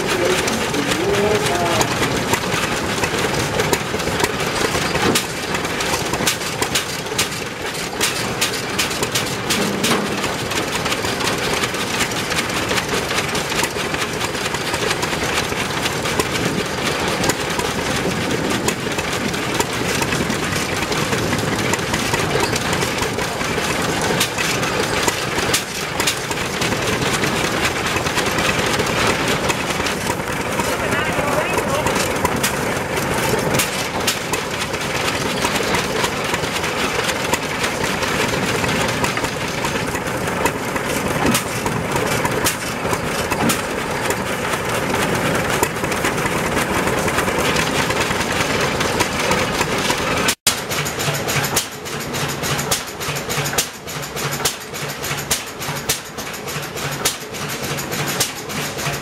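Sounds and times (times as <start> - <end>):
engine firing knocks: 0.0 - 59.0
stationary engines running: 0.0 - 59.0.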